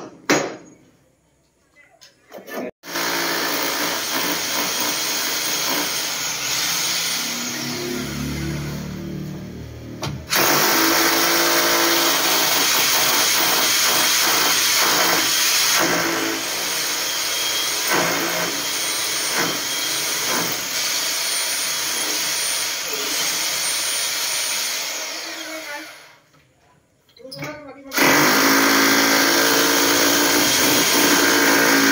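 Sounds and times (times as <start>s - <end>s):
power drill boring into concrete: 2.8s - 8.8s, 10.3s - 26.2s, 27.9s - 31.9s.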